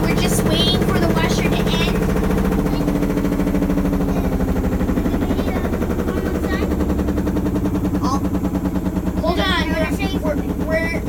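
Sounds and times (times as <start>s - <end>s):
washing machine drum knocking: 0.0s - 11.0s
washing machine motor hum: 0.0s - 11.0s.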